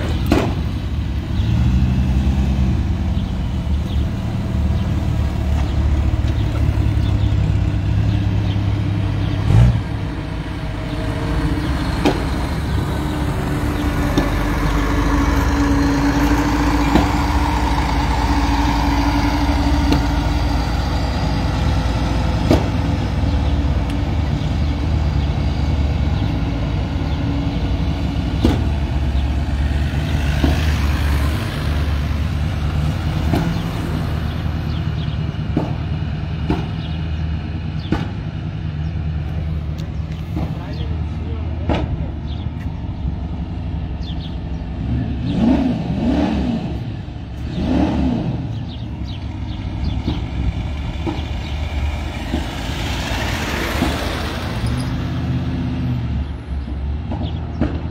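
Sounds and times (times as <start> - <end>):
car exhaust rumble: 0.0 - 57.9.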